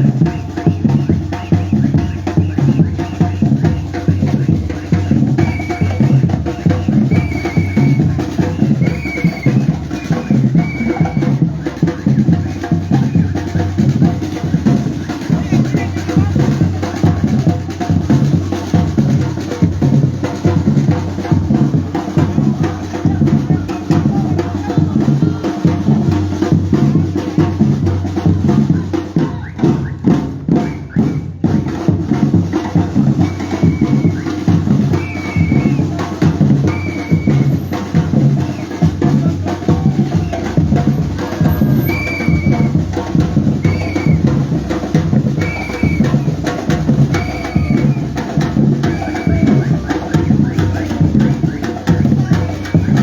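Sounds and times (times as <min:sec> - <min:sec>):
samba drumming: 0:00.0 - 0:53.0.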